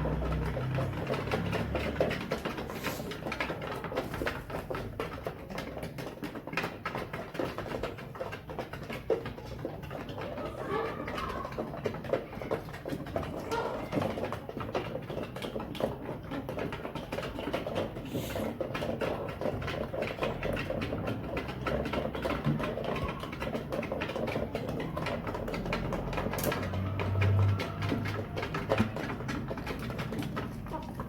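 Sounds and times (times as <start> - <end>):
chickens clucking: 0.0 - 31.0
scratching and pecking clicks: 0.0 - 31.0.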